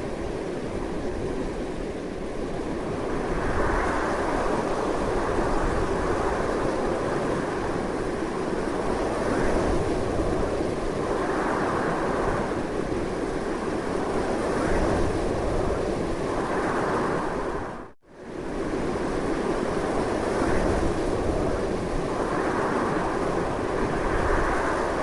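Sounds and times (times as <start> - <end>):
strong wind blowing: 0.0 - 25.0.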